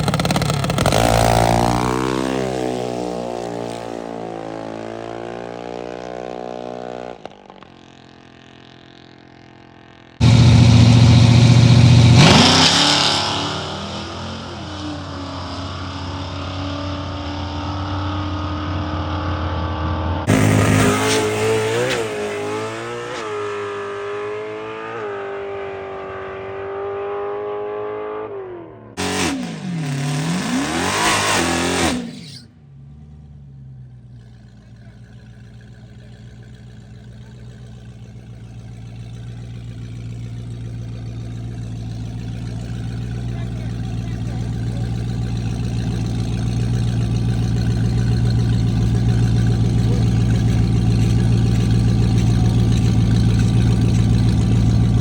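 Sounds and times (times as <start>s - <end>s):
engine revving: 0.0s - 7.3s, 10.2s - 33.4s, 34.2s - 55.0s
car engine accelerating: 0.0s - 55.0s
low engine hum: 10.2s - 24.9s, 25.5s - 55.0s.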